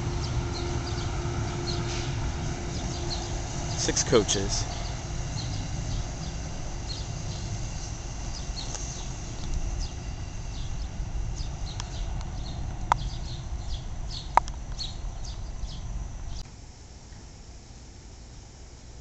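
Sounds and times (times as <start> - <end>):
low rumble: 0.0 - 16.4
small birds chirping: 0.0 - 16.4.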